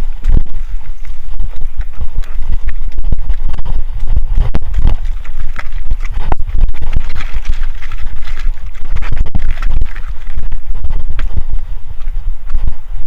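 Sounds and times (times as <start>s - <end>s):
mountain bike on rough trail: 0.0s - 13.0s.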